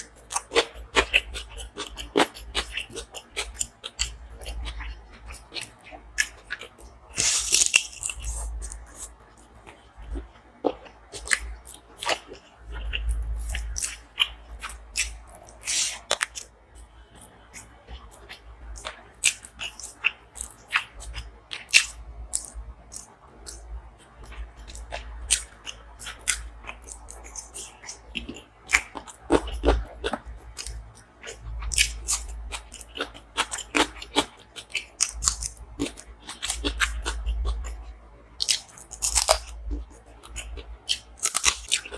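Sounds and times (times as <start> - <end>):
chewing food: 0.0 - 41.9.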